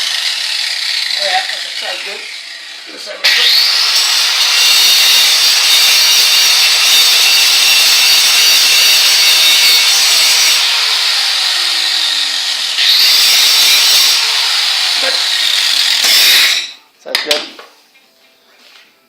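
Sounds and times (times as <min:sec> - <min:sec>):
angle grinder grinding metal: 0:00.0 - 0:16.8.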